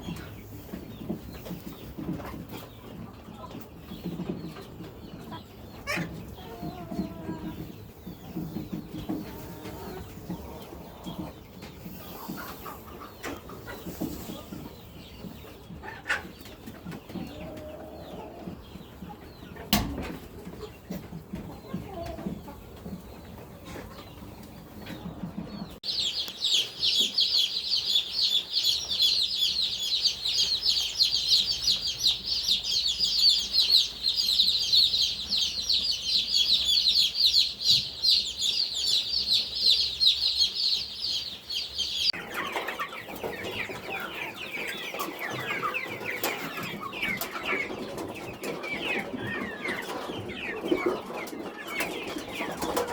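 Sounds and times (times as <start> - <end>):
chicken calls: 0.0 - 52.9
chicks peeping: 0.0 - 52.9.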